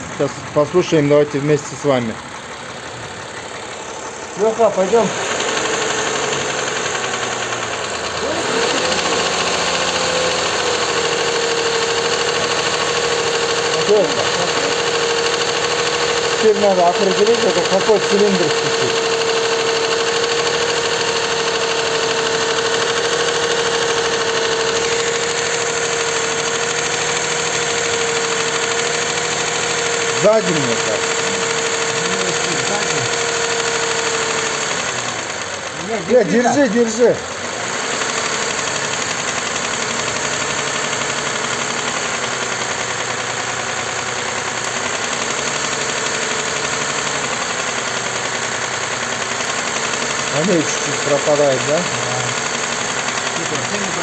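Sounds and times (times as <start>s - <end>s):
engine running with knock: 0.0s - 54.0s.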